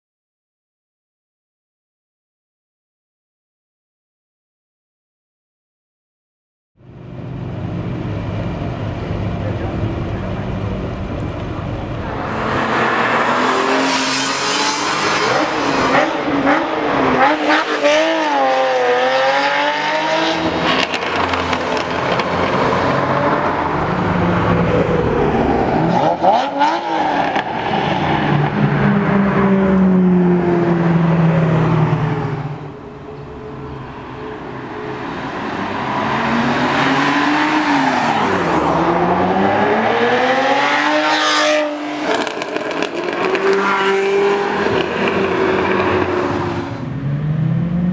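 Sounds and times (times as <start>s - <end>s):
car engine revving: 7.1s - 47.9s.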